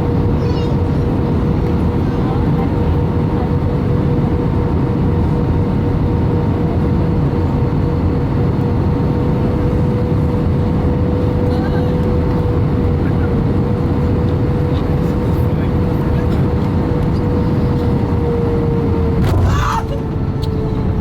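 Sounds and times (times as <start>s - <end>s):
constant hum tone: 0.0s - 21.0s
jet engine and airflow rumble: 0.0s - 21.0s.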